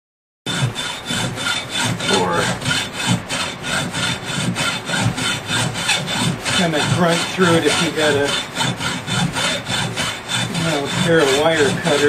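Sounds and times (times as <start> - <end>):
hand saw cutting copper wire: 0.5 - 12.0.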